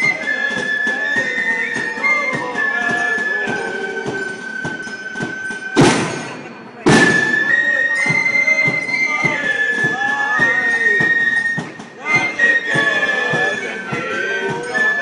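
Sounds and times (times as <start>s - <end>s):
flute band playing a march: 0.0s - 15.0s
percussive beats: 0.0s - 15.0s.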